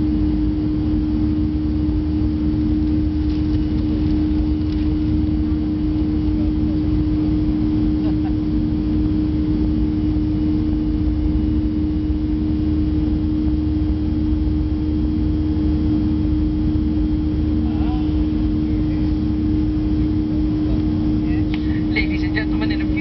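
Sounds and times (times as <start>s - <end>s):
jet engine drone in cabin: 0.0s - 23.0s.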